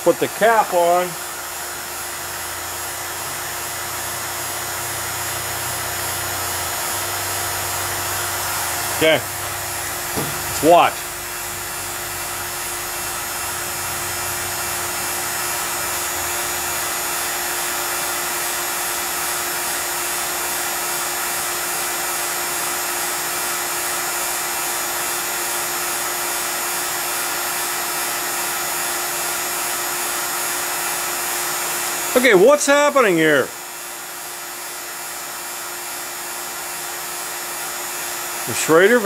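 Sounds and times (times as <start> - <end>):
vacuum pump running: 0.0 - 39.0.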